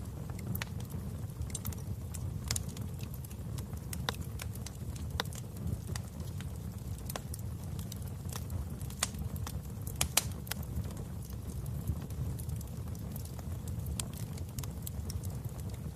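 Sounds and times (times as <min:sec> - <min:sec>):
fire pops and snaps: 0:00.0 - 0:15.9
low rumble of flames: 0:00.0 - 0:15.9
wood fire crackling: 0:00.0 - 0:15.9.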